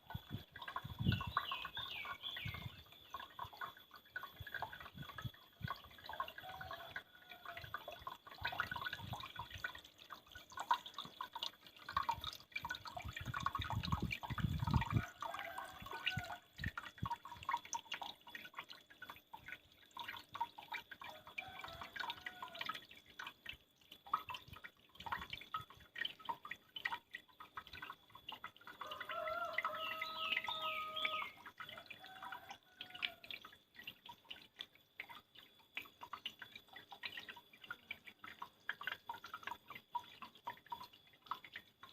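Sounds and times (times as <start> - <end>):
water dripping and splashing: 0.0 - 41.9.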